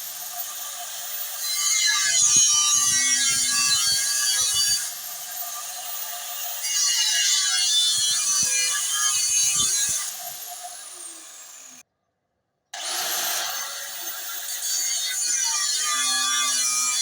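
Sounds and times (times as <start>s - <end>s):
angle grinder cutting steel: 0.0s - 11.8s, 12.8s - 17.0s.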